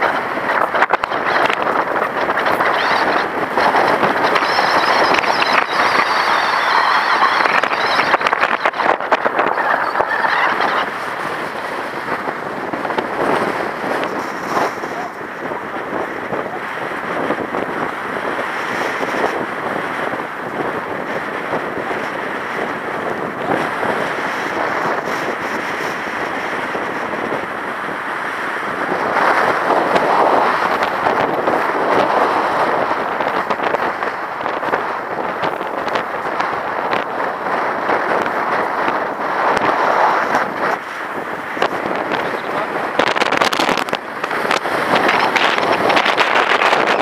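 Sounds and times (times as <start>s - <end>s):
strong wind gusting over microphone: 0.0s - 47.0s.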